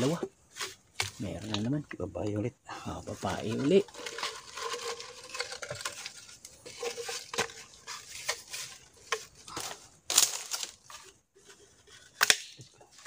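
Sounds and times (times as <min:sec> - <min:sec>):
crackling handling noise: 0:00.0 - 0:02.4, 0:03.0 - 0:13.0.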